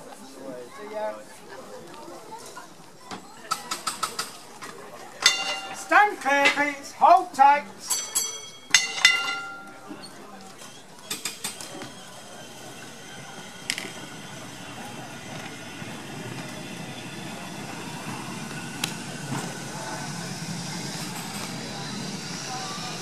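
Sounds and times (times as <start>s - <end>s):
tram wheels and gearing rumbling: 2.0s - 23.0s.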